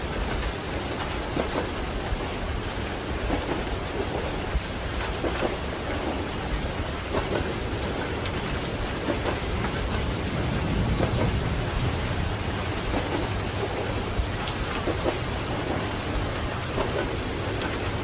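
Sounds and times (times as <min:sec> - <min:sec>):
low continuous rumble: 0:00.0 - 0:18.0
steady rain: 0:00.0 - 0:18.0.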